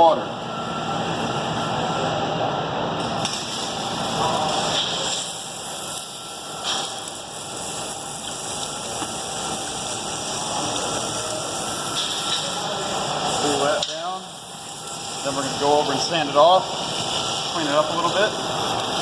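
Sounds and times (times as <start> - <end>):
hot steel sizzling in water: 3.0 - 19.0.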